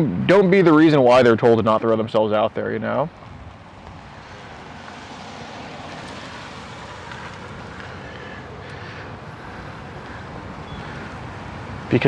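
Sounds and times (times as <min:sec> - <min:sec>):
traffic hum: 0:00.0 - 0:12.0
wind: 0:00.0 - 0:12.0.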